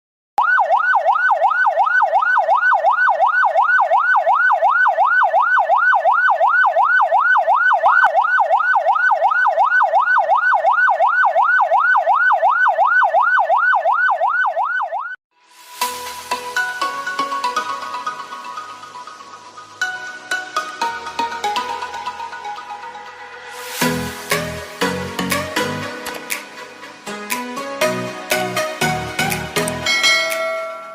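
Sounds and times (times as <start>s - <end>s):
ambulance siren yelping: 0.4s - 15.2s, 16.8s - 26.8s.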